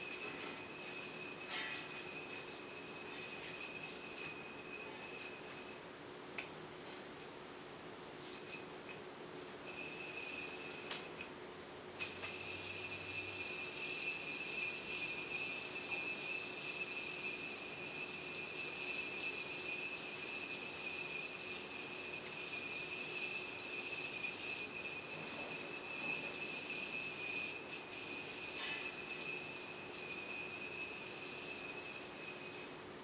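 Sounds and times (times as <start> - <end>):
high-pitched insect chorus: 0.0 - 6.3, 9.7 - 11.2, 12.0 - 33.0.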